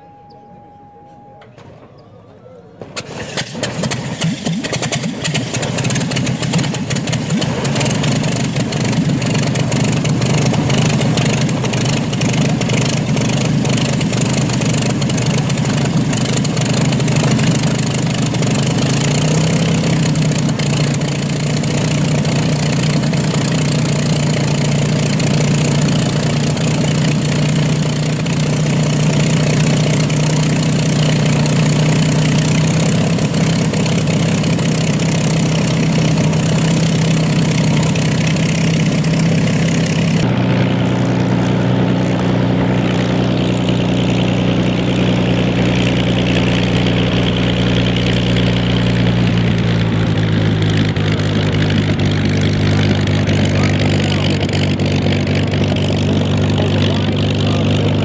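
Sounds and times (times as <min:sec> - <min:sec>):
aircraft engine idling: 0:00.0 - 0:58.0.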